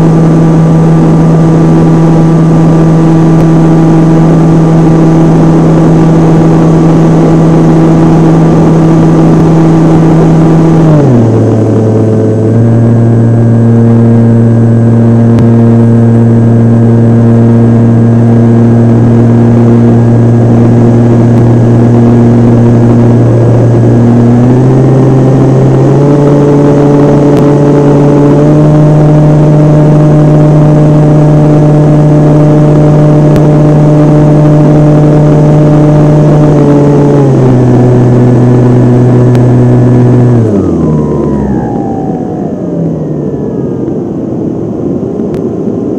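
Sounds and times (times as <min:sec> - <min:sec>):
model airplane motor and propeller: 0:00.0 - 0:45.9.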